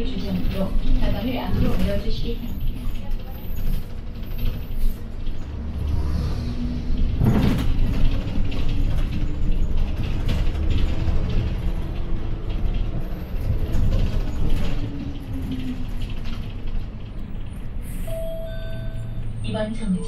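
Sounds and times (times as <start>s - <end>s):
bus engine rumbling: 0.0s - 20.0s.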